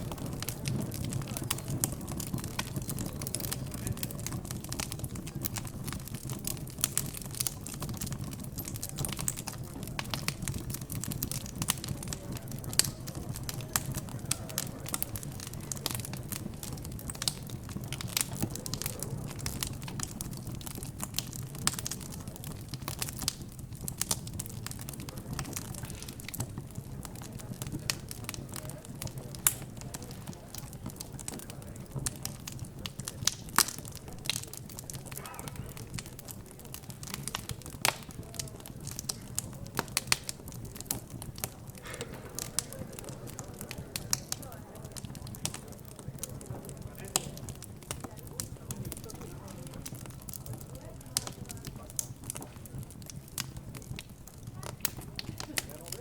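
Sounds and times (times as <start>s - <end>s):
background chatter: 0.0s - 56.0s
wood fire crackling and popping: 0.0s - 56.0s.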